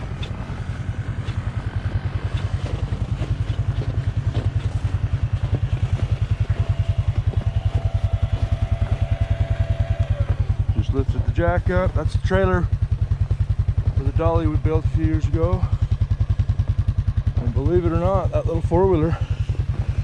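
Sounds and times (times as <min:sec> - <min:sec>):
four-wheeler engine idling: 0:00.0 - 0:20.0.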